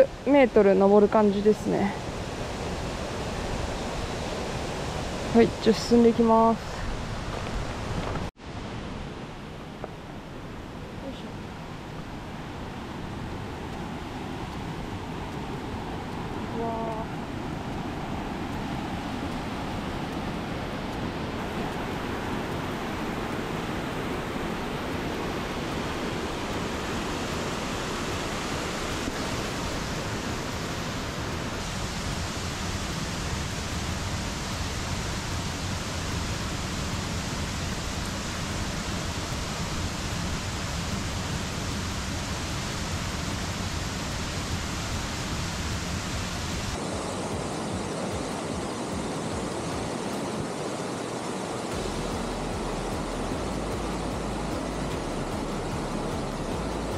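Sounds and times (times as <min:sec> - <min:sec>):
stream and waterfall rushing: 0:00.0 - 0:56.9.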